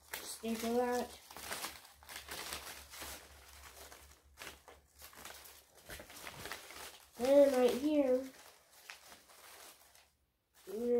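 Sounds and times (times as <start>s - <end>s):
paper rustling and crinkling: 0.0s - 10.9s.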